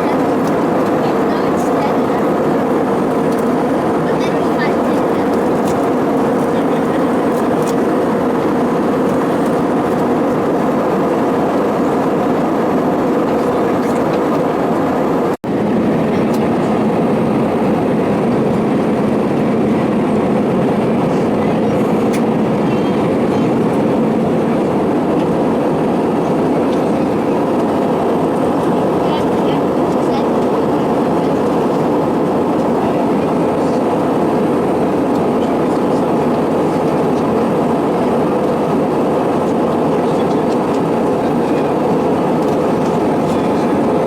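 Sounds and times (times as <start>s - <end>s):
airliner cabin noise: 0.0s - 44.0s.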